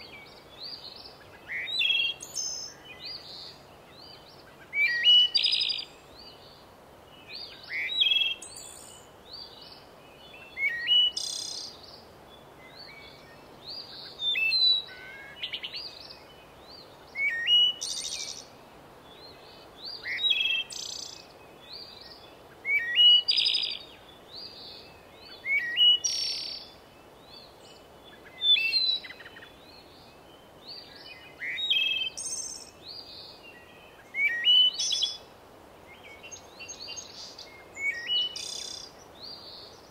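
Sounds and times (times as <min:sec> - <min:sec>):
faint steady hiss: 0:00.0 - 0:39.9
songbird chirping: 0:00.0 - 0:39.9.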